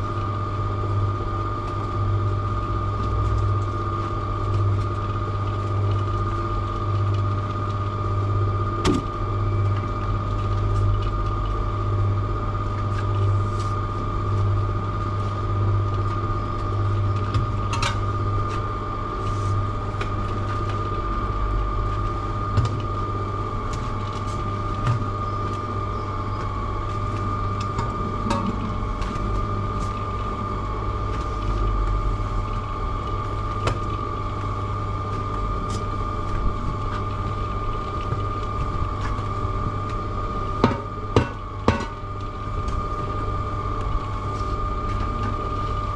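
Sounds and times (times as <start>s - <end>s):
cement mixer motor hum: 0.0s - 45.9s.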